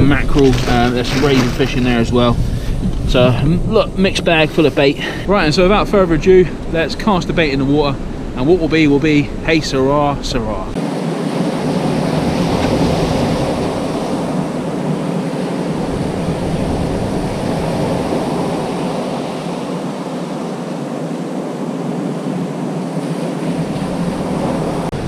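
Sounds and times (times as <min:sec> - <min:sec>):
sea waves washing onto beach: 0:00.0 - 0:09.6, 0:10.7 - 0:25.0
wind buffeting microphone: 0:00.0 - 0:25.0.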